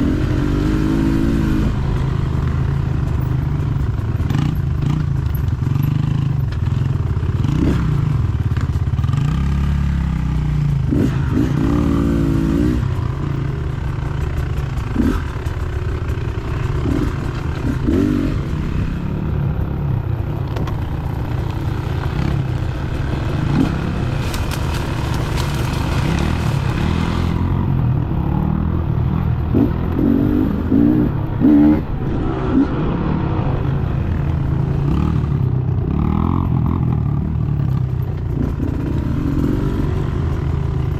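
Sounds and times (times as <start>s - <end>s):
dirt bike engine revving: 0.0s - 5.1s, 9.0s - 40.9s.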